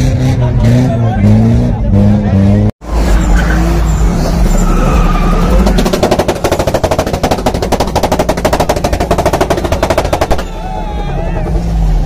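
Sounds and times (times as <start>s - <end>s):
car engine and spinning tyres: 0.4s - 12.0s.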